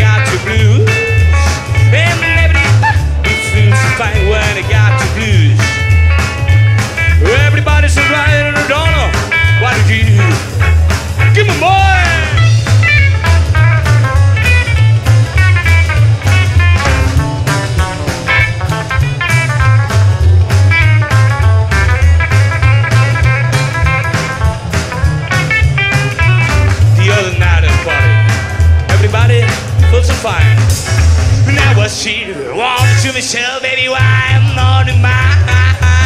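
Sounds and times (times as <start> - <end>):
steady drum beat: 0.0 - 33.4, 34.0 - 36.0
lead guitar with bent notes: 0.0 - 36.0
upright double bass: 0.0 - 36.0.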